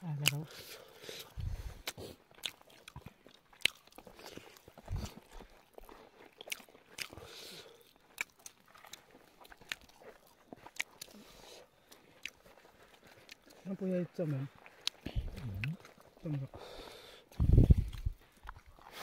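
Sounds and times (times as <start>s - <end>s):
people chewing and crunching: 0.0s - 19.0s.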